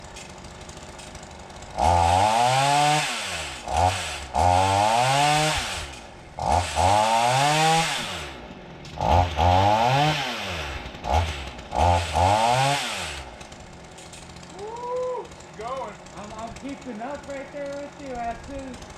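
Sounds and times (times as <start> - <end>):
chainsaw revving: 0.0 - 18.9.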